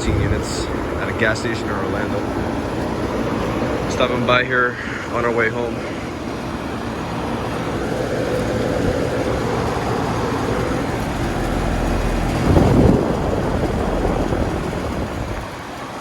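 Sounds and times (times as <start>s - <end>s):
air conditioner units humming: 0.0s - 16.0s.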